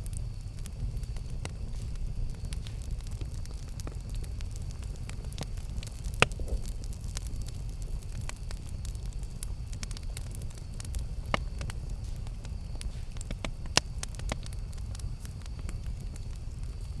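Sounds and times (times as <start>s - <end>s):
campfire flames rumbling: 0.0s - 17.0s
fire crackling and popping: 0.0s - 17.0s.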